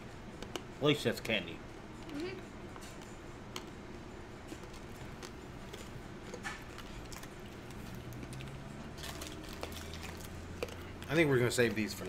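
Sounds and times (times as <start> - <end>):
low steady room hum: 0.0 - 12.0.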